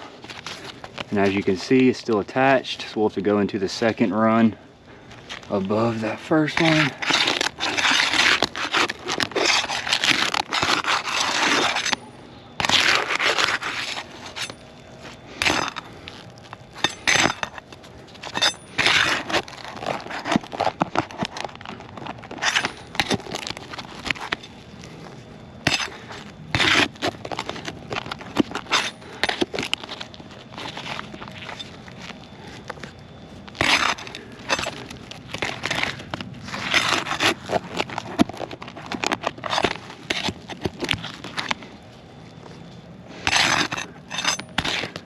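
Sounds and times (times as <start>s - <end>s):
roof shingles scraping and cracking: 5.2s - 12.0s, 12.6s - 41.7s, 43.1s - 45.0s.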